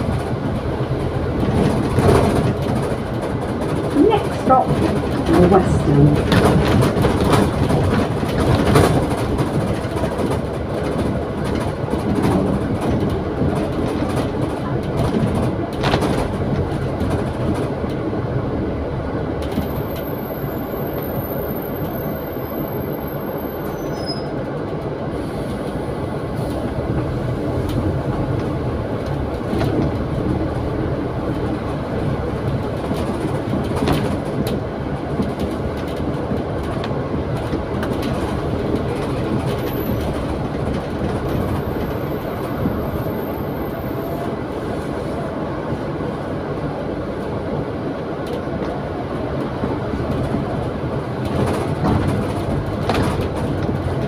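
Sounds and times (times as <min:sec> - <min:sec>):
bus body rattle: 0:00.0 - 0:54.0
bus engine: 0:00.0 - 0:54.0.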